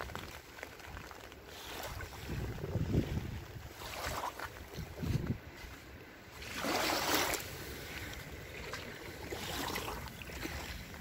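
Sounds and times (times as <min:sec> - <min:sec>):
waves lapping on sandy shore: 0:00.0 - 0:11.0
wind rumbling on microphone: 0:00.0 - 0:11.0.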